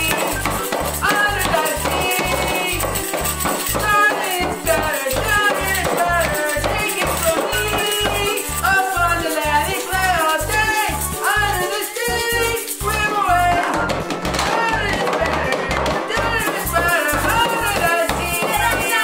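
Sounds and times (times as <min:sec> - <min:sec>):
toy maracas rattling: 0:00.0 - 0:19.0
toy tambourine shaking: 0:00.0 - 0:19.0
upbeat music: 0:00.0 - 0:19.0.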